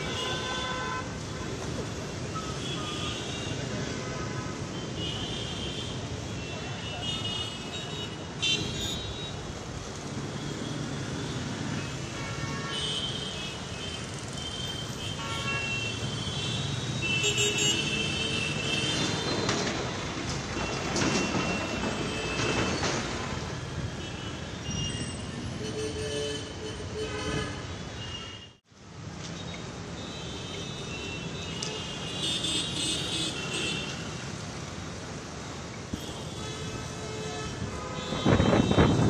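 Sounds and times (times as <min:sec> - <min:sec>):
traffic hum: 0:00.0 - 0:39.0.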